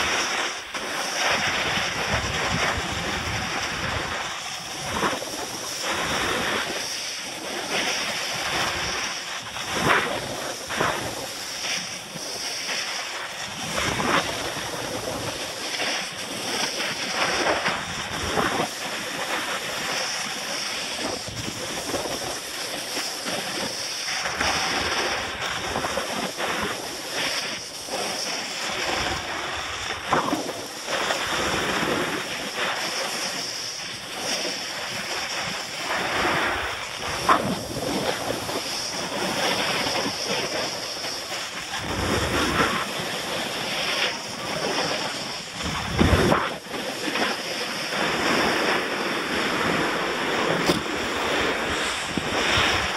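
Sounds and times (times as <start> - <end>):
snowboard scraping on snow: 0.0 - 52.9
wind buffeting microphone: 1.0 - 12.6, 13.4 - 28.1, 28.8 - 52.9.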